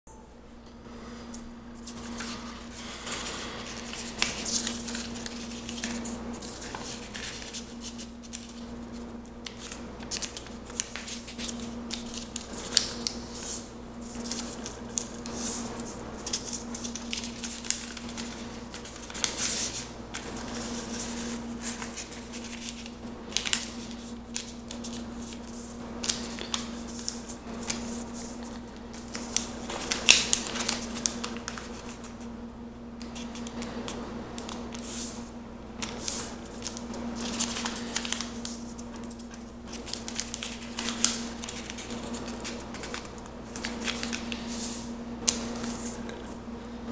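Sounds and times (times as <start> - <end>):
paper rustling and crinkling: 1.8 - 32.3, 33.1 - 46.4.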